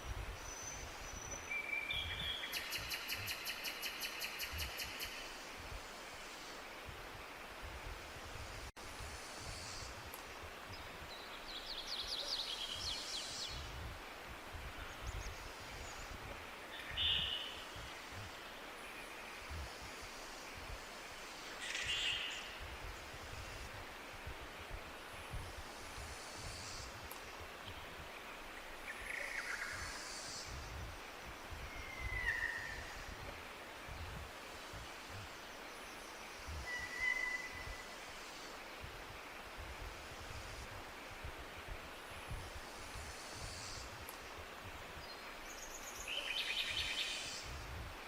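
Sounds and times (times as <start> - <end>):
wild birds singing: 0.0 - 7.6, 10.6 - 13.8, 14.7 - 47.6
steady rustling hiss: 0.0 - 48.0.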